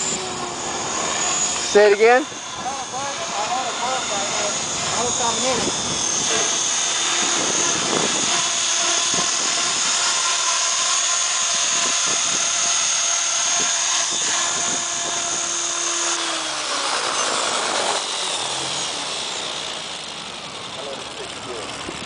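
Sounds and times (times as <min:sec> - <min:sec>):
helicopter rotors chopping: 0:00.0 - 0:22.0
high motor whine: 0:00.0 - 0:22.0.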